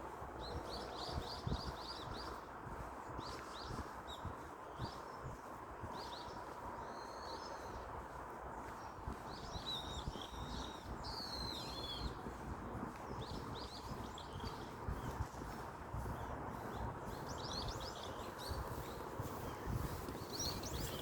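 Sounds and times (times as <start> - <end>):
low outdoor background noise: 0.0 - 21.0
small birds chirping: 0.4 - 21.0.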